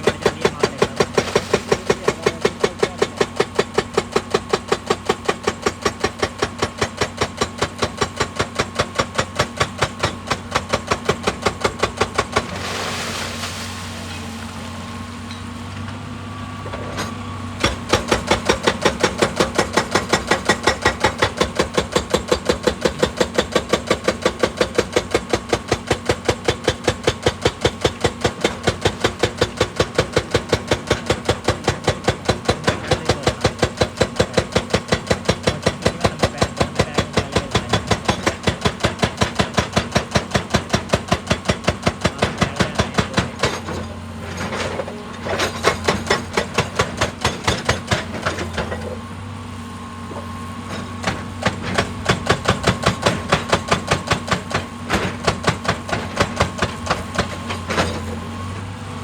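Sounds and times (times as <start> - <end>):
hydraulic breaker hammering rock: 0.0 - 12.9, 16.6 - 49.1, 50.1 - 58.8
excavator engine running: 0.0 - 59.0.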